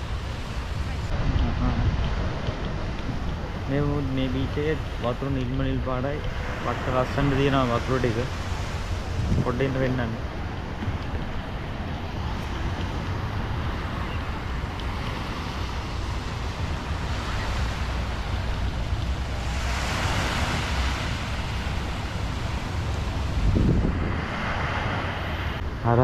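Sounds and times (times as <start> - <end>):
small waves breaking on beach: 0.0 - 26.0
wind rumbling on microphone: 0.0 - 26.0.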